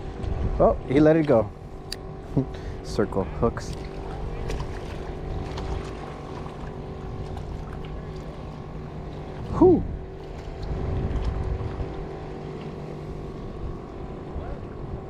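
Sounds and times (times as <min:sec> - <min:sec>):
electric motor humming: 0:00.0 - 0:15.0
wind rumbling on microphone: 0:00.0 - 0:15.0.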